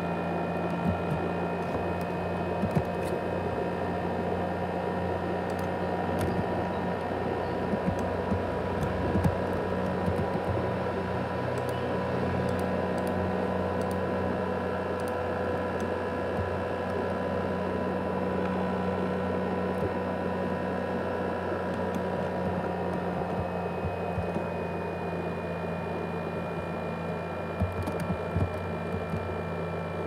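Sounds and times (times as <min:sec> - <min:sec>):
laptop cooling fan whirring: 0:00.0 - 0:30.0.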